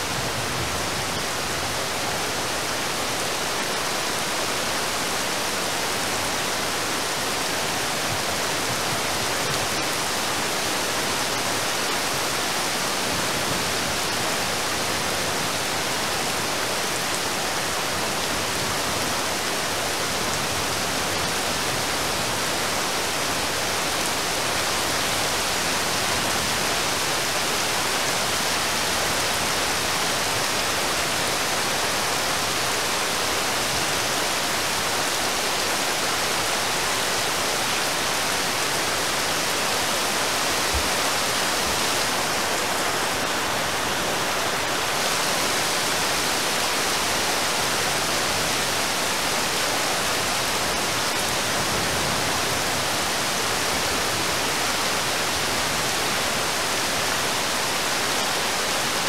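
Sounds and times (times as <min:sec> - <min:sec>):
heavy rain on river: 0:00.0 - 0:59.0.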